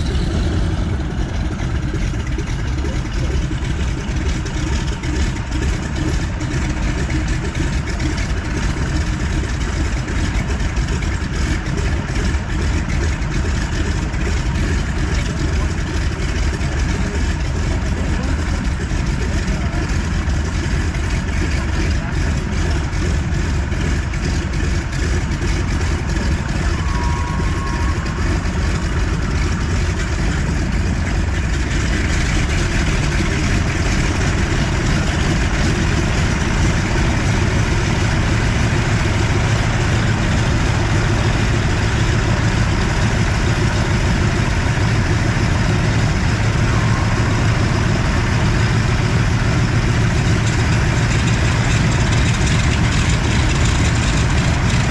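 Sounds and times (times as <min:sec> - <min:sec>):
propeller plane engines running: 0:00.0 - 0:54.9.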